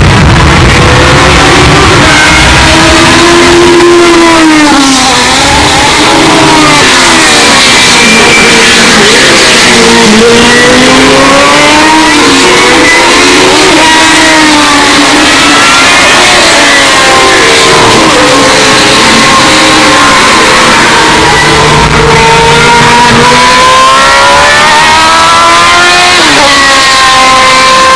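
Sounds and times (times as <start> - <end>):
racing car engine at high revs: 0.0 - 27.9.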